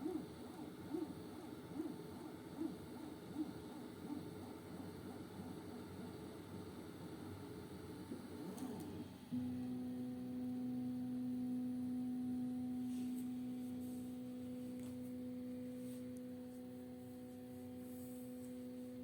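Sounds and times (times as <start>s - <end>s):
printer motors humming tone: 0.0s - 19.0s.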